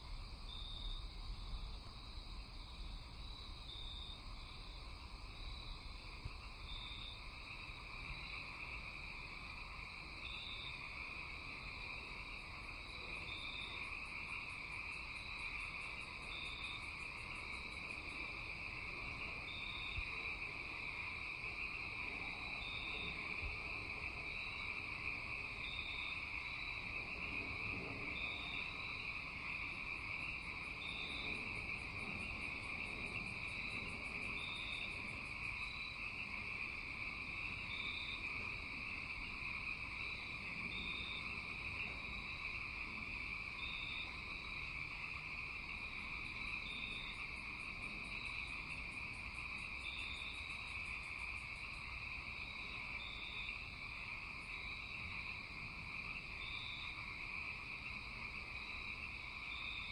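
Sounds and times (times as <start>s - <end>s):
high insect chirp: 0.0s - 59.9s
insects droning: 0.0s - 59.9s.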